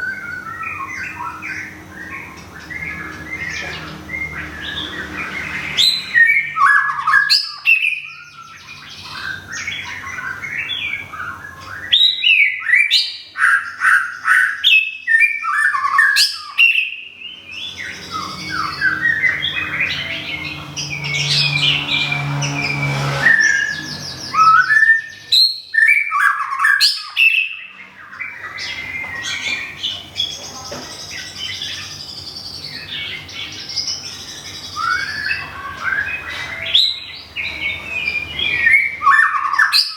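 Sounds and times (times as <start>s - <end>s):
bird singing whistled phrases: 0.0s - 20.2s, 23.3s - 30.0s, 34.6s - 39.9s.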